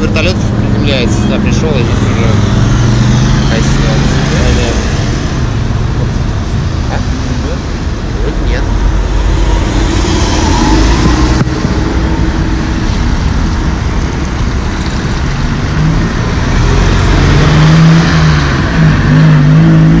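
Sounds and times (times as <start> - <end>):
motorway traffic passing: 0.0 - 20.0.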